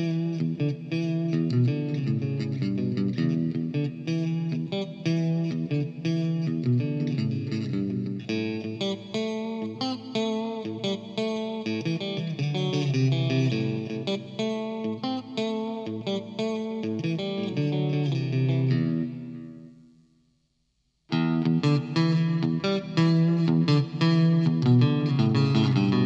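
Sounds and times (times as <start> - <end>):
electric guitar strumming chords: 0.0 - 19.9, 21.1 - 26.0.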